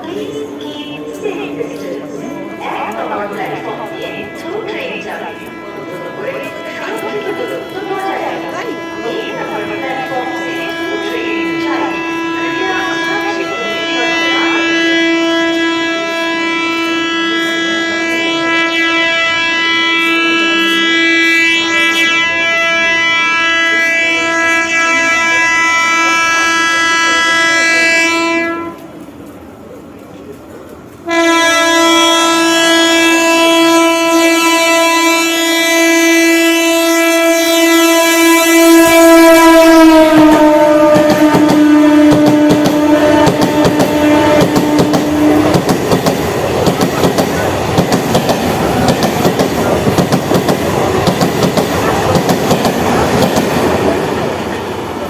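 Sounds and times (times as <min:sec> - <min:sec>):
electric train horn blasts: 0:02.4 - 0:29.0, 0:31.0 - 0:54.6.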